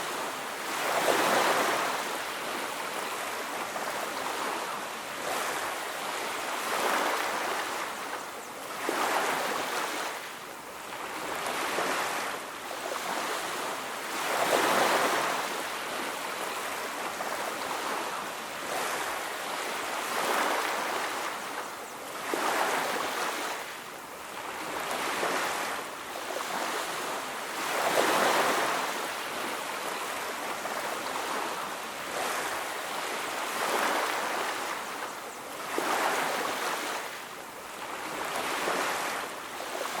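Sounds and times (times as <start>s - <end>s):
waves breaking on beach: 0.0s - 40.0s.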